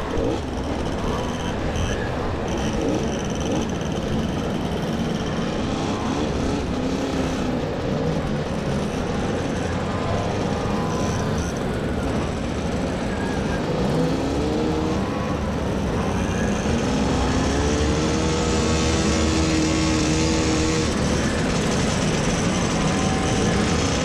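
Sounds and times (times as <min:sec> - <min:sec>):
moped engines buzzing: 0:00.0 - 0:24.0.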